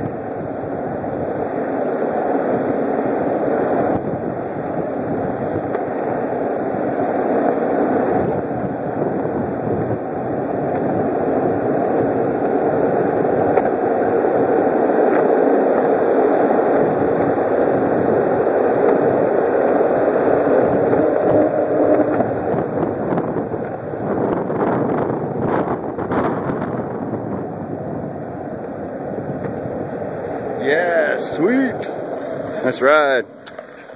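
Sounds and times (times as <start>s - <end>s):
skateboard wheels rolling on asphalt: 0.0s - 33.9s.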